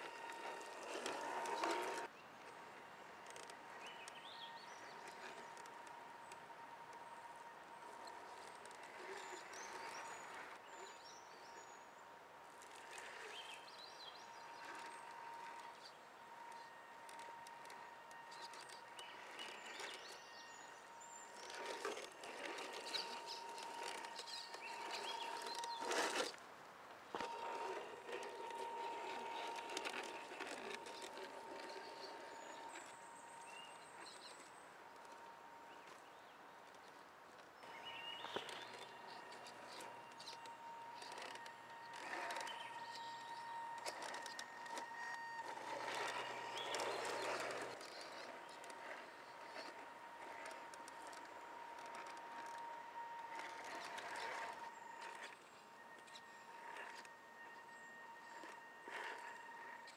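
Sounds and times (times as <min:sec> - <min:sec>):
toy car motor whine: 0:00.0 - 0:26.4, 0:27.1 - 0:59.9.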